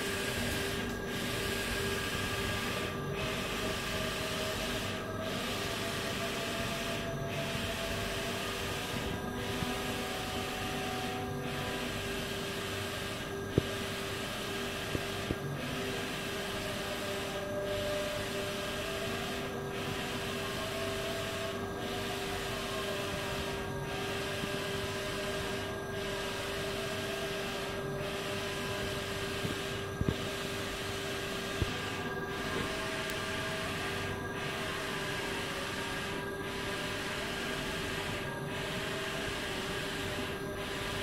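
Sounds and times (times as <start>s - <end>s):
printer carriage whirring: 0.0s - 41.0s.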